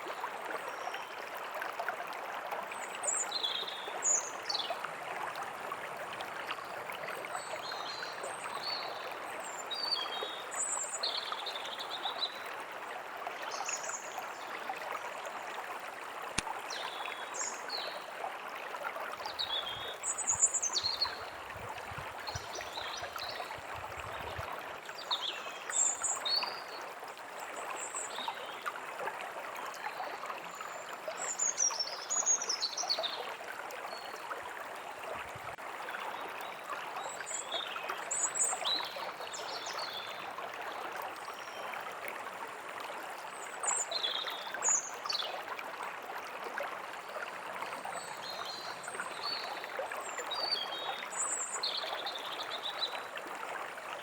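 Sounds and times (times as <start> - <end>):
small stream running: 0.0 - 54.0.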